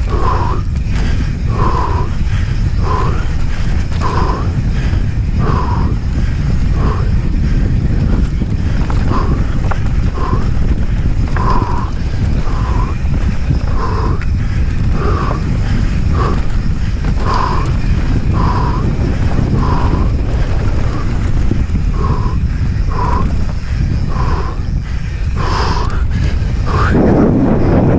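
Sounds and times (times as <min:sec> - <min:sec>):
person breathing hard: 0:00.0 - 0:27.9
wind and tyres on dirt: 0:00.0 - 0:27.9.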